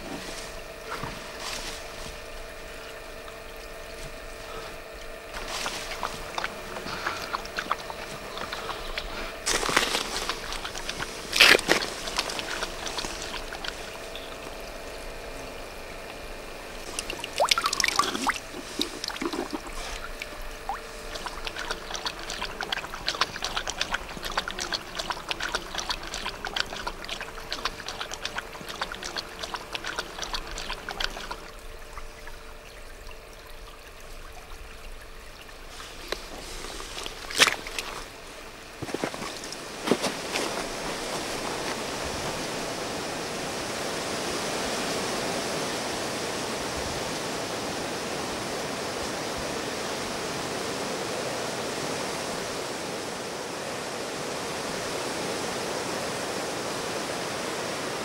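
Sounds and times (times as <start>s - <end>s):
animal lapping and splashing water: 0.0s - 47.1s
stream trickling: 0.0s - 58.0s.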